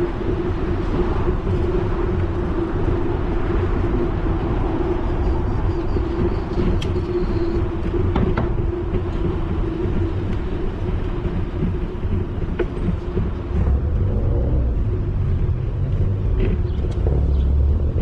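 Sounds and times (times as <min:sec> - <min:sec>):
tyres and wind noise: 0:00.0 - 0:18.0.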